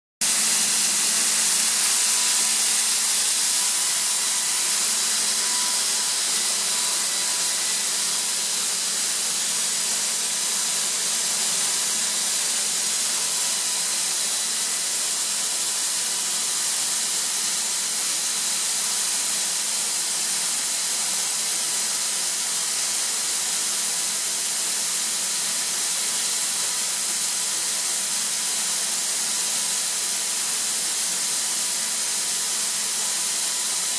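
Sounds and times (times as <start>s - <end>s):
air compressor hissing: 0.2s - 33.9s.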